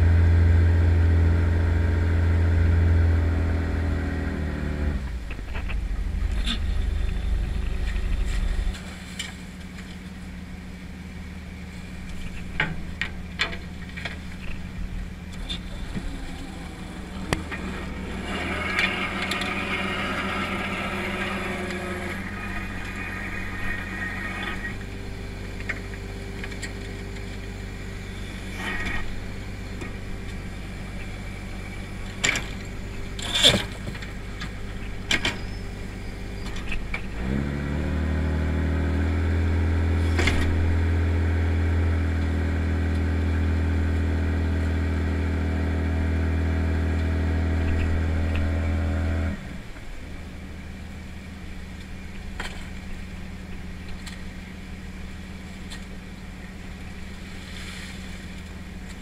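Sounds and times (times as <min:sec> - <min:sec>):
pot hauler whine: 0:00.0 - 0:10.1, 0:11.8 - 0:49.7
boat engine running: 0:00.0 - 0:59.0.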